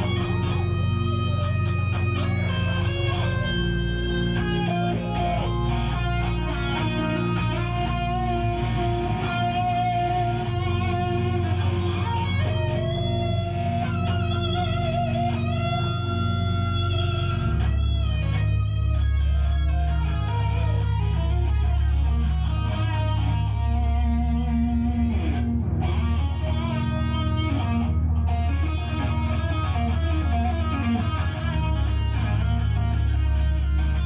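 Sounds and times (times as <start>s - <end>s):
distorted electric guitar: 0.0s - 34.0s
heavy bass: 0.0s - 34.0s.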